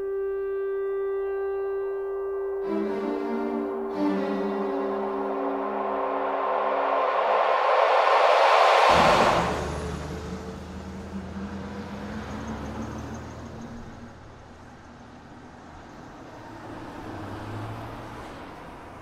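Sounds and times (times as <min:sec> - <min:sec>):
street traffic: 0:02.6 - 0:19.0
vehicle engine droning: 0:02.6 - 0:19.0.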